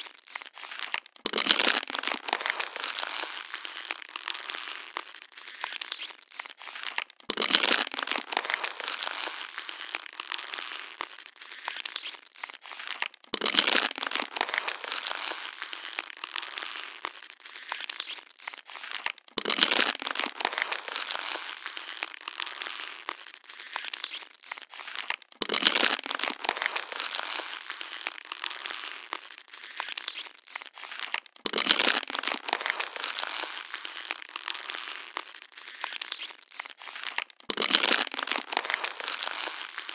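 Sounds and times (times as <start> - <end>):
plastic bottle crackling: 0.0 - 39.9
plastic bottle crunch: 0.0 - 39.9.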